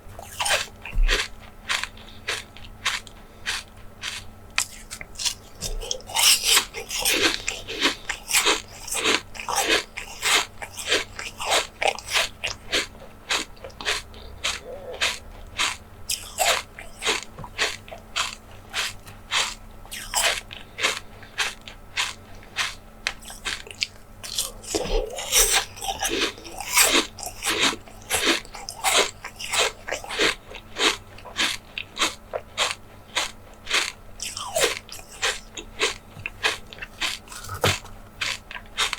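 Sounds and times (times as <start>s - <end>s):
crisp crunching bites of food: 0.2s - 38.9s.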